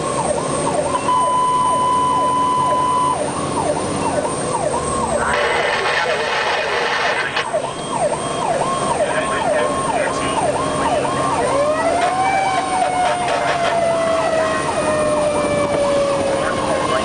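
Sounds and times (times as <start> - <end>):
lower siren tone rising and falling: 0.0 - 5.7, 7.0 - 17.0
fire truck engine noise: 0.0 - 17.0
electronic siren fast yelp: 0.7 - 16.7.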